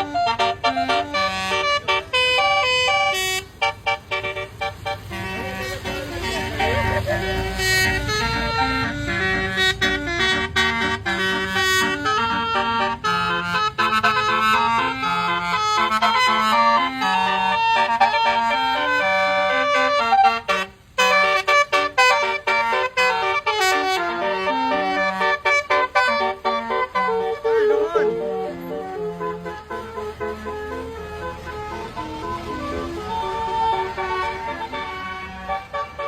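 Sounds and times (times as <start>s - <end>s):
bus musical horn playing a tune: 0.0s - 36.0s.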